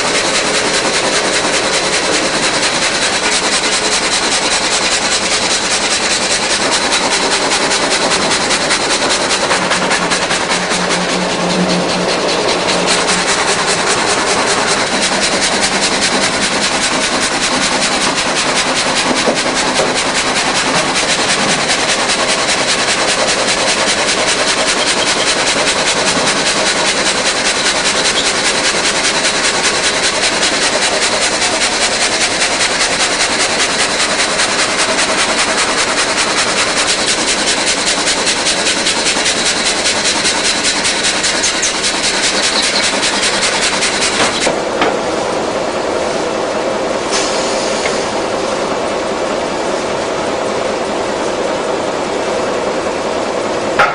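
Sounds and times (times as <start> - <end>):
rip saw machine whining: 0.0 - 46.3.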